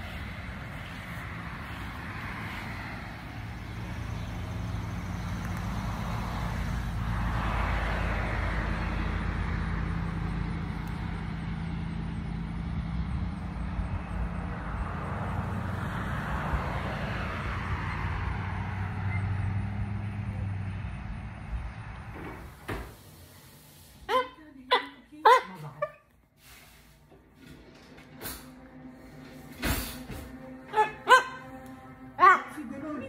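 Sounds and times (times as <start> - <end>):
low road hum: 0.0 - 33.0
vehicles passing: 0.0 - 33.0.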